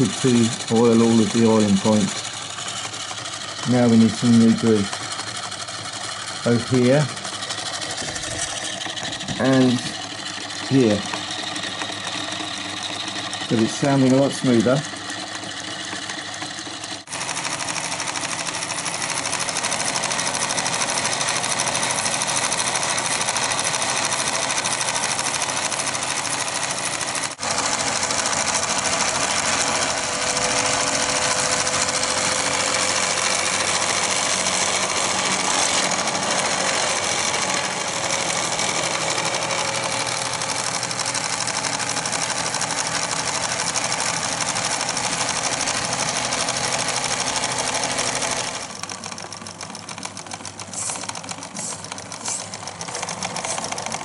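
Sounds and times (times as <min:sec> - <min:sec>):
film projector clattering: 0:00.0 - 0:54.0.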